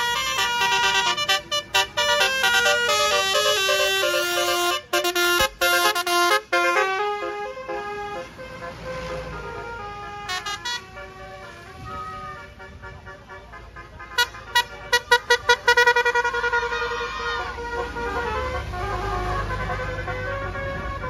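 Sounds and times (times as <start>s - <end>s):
bus musical horn melody: 0.0s - 21.0s.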